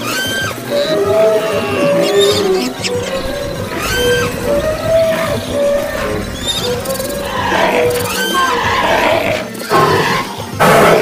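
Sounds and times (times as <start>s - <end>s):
animal roars and cries: 0.0s - 11.0s
background music: 0.0s - 11.0s.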